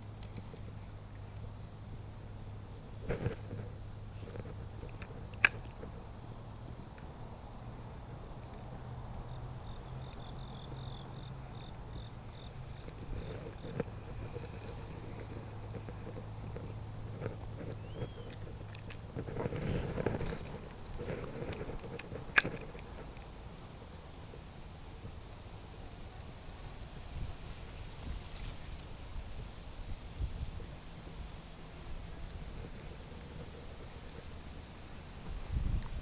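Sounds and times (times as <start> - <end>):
low hum and hiss: 0.0 - 36.0.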